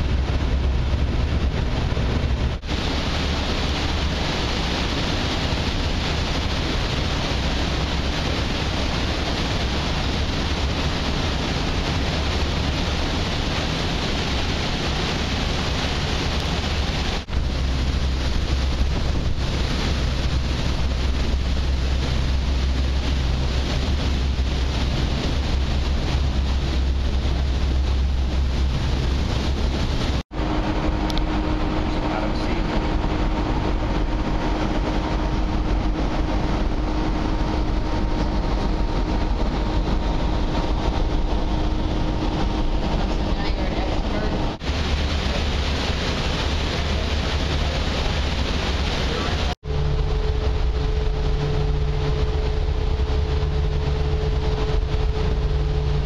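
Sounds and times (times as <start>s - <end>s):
churning water: 0.0s - 56.0s
low ship engine rumble: 0.0s - 56.0s
wind on microphone: 0.0s - 56.0s.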